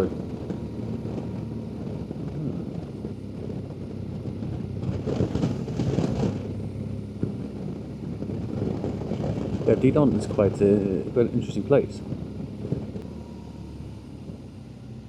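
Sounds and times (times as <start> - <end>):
wind rush: 0.0 - 13.2
motorcycle engine hum: 0.0 - 15.0.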